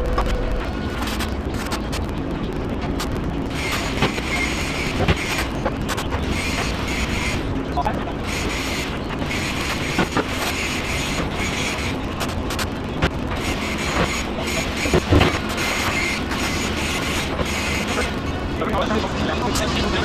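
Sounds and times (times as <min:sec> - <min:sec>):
machine noise: 0:00.0 - 0:20.0.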